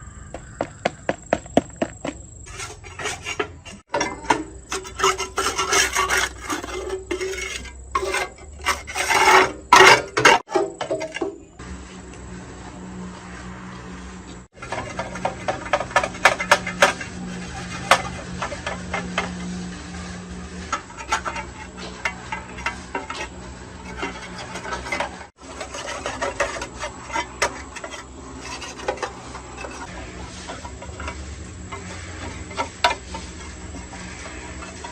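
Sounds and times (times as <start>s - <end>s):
hand tools on metal: 0.3s - 11.8s, 13.4s - 34.9s.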